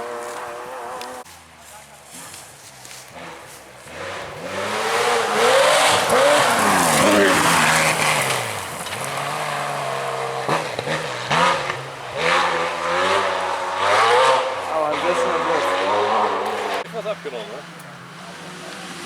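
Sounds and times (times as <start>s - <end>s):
rally car engine revving: 0.0s - 1.3s, 2.1s - 19.0s
tyre and road noise: 0.0s - 19.0s.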